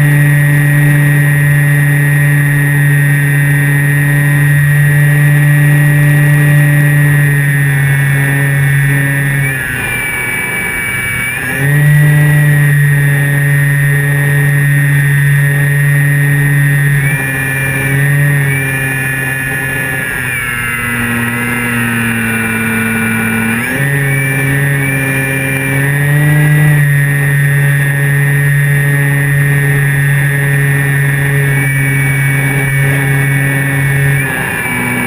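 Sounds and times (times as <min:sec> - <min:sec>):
electric motor and propeller whine: 0:00.0 - 0:35.0.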